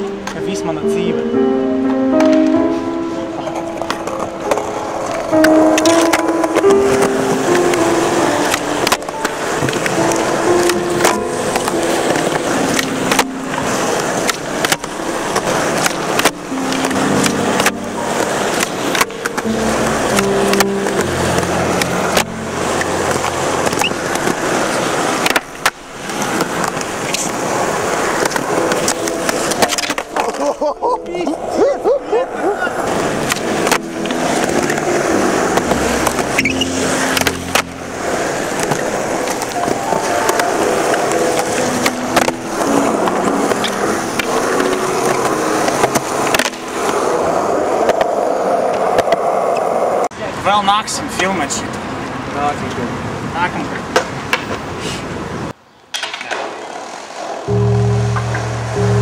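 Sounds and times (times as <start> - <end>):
skateboard clacking on ground: 2.2 - 50.1, 53.8 - 54.8, 55.8 - 59.0
skateboard wheels rolling on stone: 2.2 - 50.1, 53.7 - 59.0
skateboard clattering away: 3.4 - 50.0, 55.9 - 59.0.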